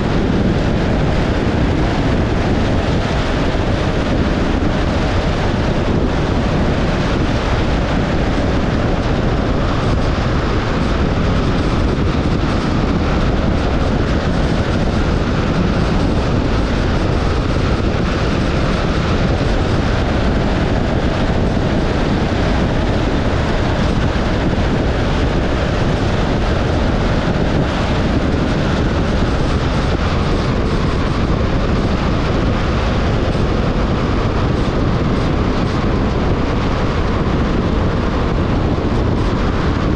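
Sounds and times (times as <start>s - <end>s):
tyre and wind road noise: 0.0s - 39.9s.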